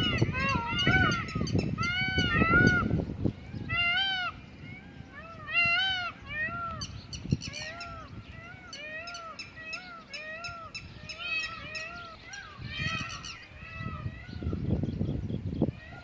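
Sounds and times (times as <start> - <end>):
peafowl calling: 0.0 - 14.6
wind on microphone: 0.0 - 16.0.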